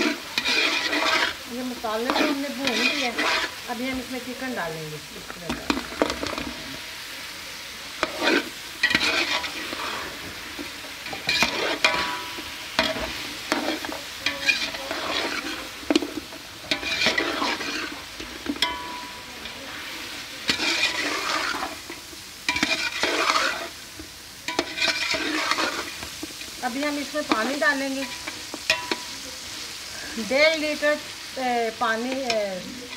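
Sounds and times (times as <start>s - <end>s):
metal spatula scraping a pot: 0.0s - 4.5s, 7.9s - 31.2s
chicken sizzling in oil: 0.0s - 32.9s.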